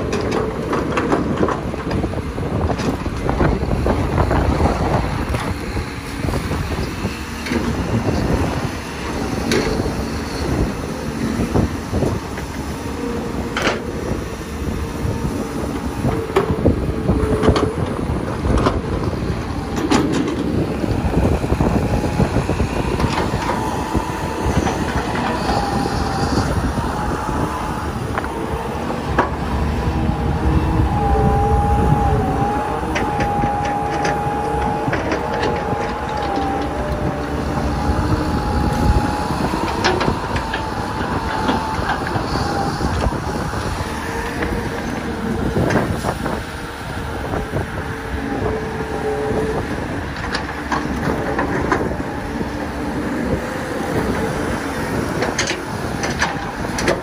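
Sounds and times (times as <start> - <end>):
bucket and tracks clanking: 0.0 - 14.2, 15.4 - 57.0
diesel engine rumbling under load: 0.0 - 57.0
wavering engine whine: 0.0 - 57.0.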